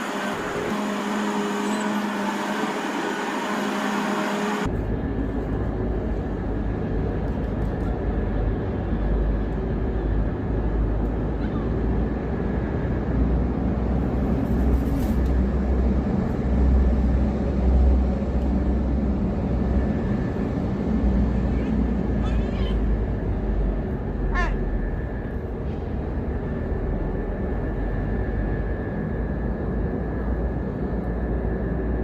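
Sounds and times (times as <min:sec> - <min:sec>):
low outdoor rumble: 0:04.6 - 0:32.0.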